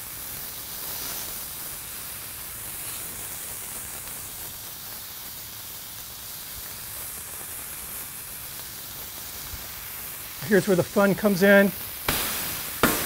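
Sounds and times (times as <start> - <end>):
patties sizzling on griddle: 0.0 - 13.0.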